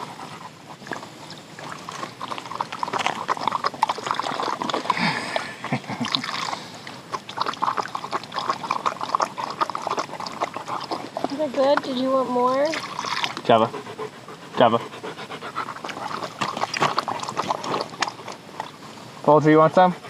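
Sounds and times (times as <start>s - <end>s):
water sloshing: 0.0s - 19.3s
dog lapping water: 0.0s - 20.0s.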